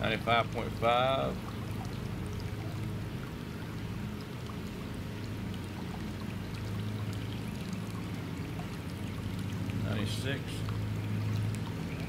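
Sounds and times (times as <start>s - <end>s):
water pouring into pool: 0.0s - 12.0s.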